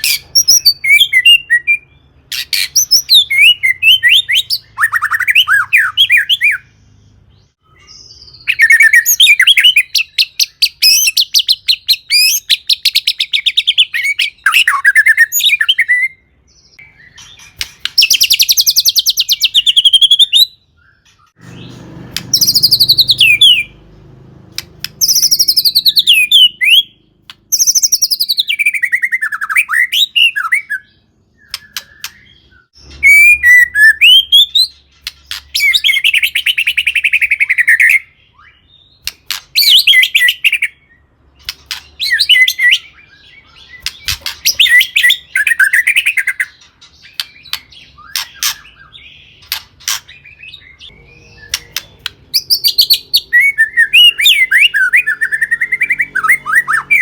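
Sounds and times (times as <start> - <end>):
songbird singing loudly: 0.0 - 57.0.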